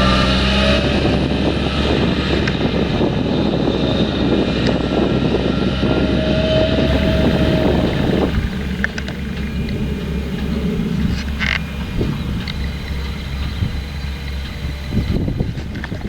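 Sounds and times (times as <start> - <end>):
diesel engine running: 0.0 - 16.0
harvester rattle and clatter: 0.0 - 16.0
machine whine: 0.0 - 16.0.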